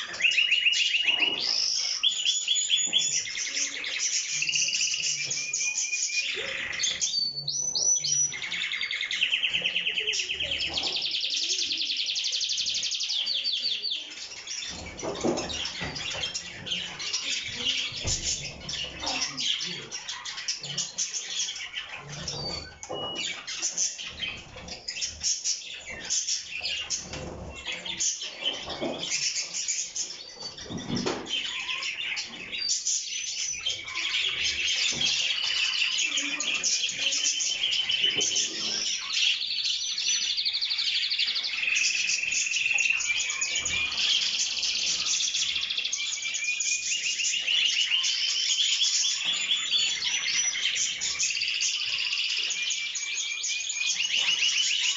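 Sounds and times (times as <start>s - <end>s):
canaries singing: 0.0s - 54.9s.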